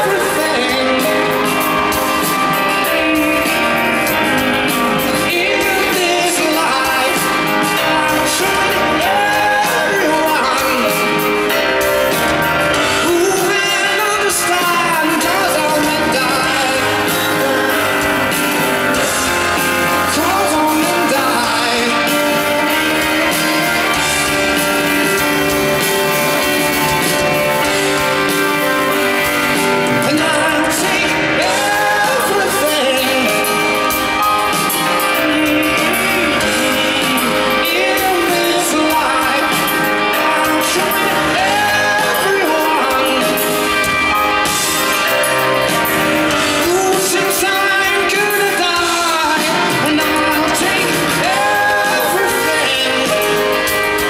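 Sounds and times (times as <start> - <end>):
live pop-rock band: 0.0 - 54.0
man singing lead: 0.0 - 54.0.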